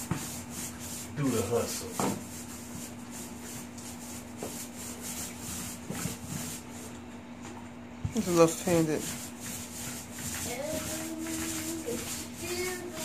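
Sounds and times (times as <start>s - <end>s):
paint roller rubbing on wall: 0.0s - 7.0s, 8.1s - 13.0s.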